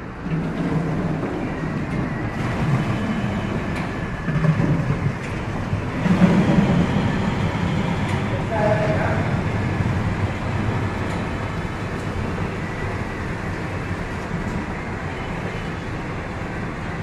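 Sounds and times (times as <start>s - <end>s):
water filling station rushing: 0.0s - 17.0s.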